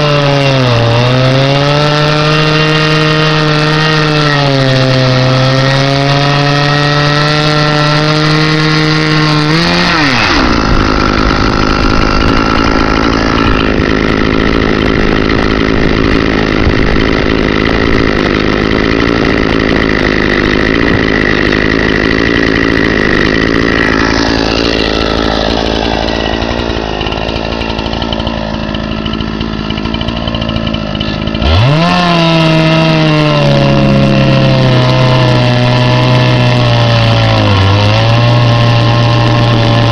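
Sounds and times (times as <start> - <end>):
chainsaw sawing log: 0.0 - 39.9.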